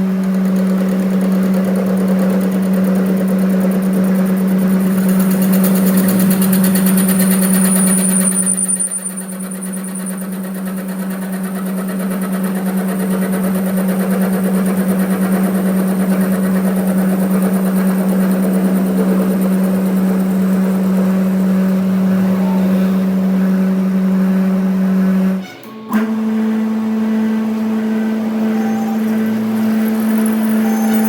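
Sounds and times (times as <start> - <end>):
workshop machine humming: 0.0 - 31.0.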